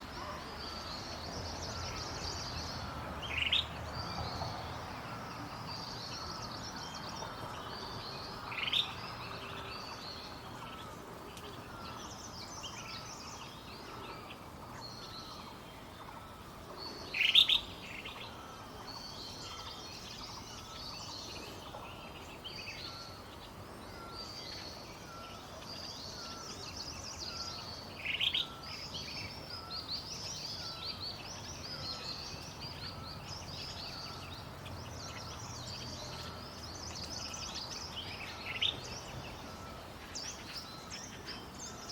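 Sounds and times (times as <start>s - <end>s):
other birds singing: 0.0s - 41.9s.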